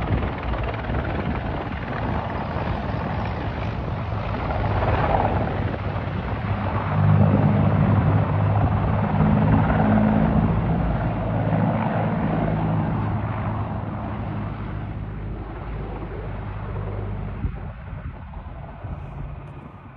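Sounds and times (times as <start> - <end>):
helicopter rotor and turbine hum: 0.0 - 19.9.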